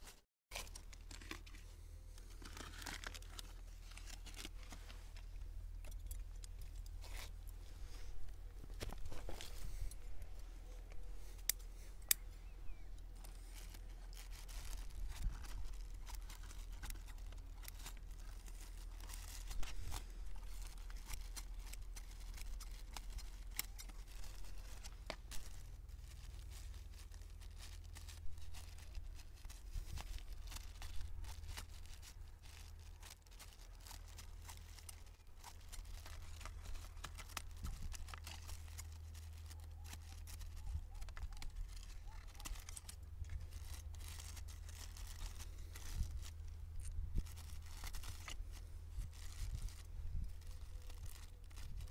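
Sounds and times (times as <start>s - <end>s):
plastic bags rustling: 0.0s - 51.9s
low steady rumble: 0.7s - 51.9s.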